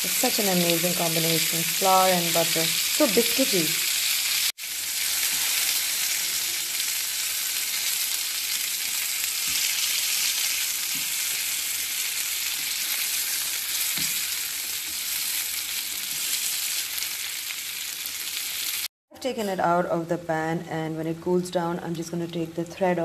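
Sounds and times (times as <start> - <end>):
chicken sizzling in frying pan: 0.0 - 18.9.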